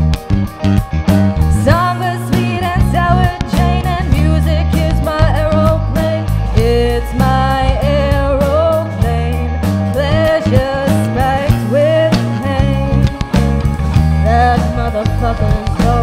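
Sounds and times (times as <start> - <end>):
drum kit steady beat: 0.0 - 16.0
electric bass: 0.0 - 16.0
electric guitar: 0.0 - 16.0
woman singing: 1.5 - 13.6, 14.2 - 16.0.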